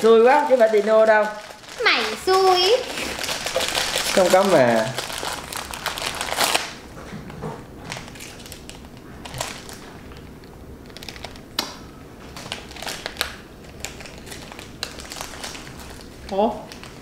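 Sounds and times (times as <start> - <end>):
foil packets crinkling: 0.0 - 6.9, 7.9 - 17.0.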